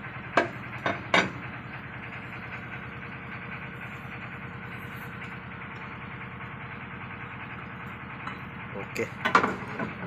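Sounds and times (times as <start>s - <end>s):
machinery running steadily: 0.0s - 10.0s.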